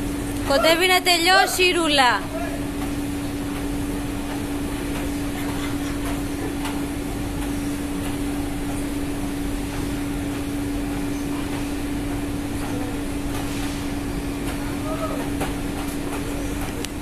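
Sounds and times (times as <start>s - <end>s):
shipboard machinery drone: 0.0s - 17.0s.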